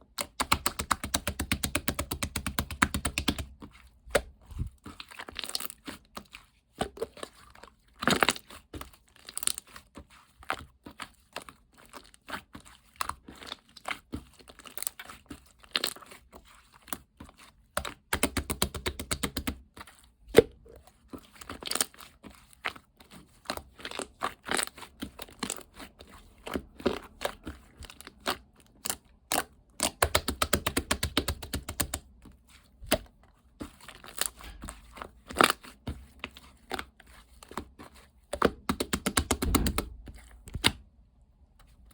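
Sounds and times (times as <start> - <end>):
slime squishing: 0.0 - 41.9.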